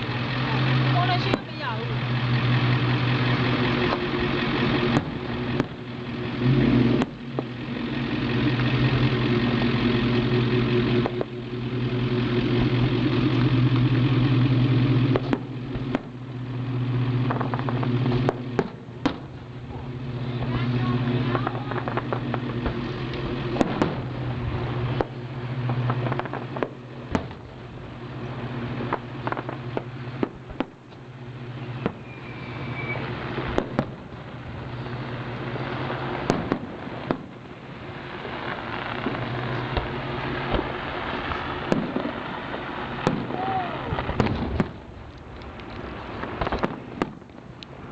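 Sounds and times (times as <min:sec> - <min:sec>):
steady low hum: 0:00.0 - 0:43.3
fireworks banging and crackling: 0:00.0 - 0:47.9.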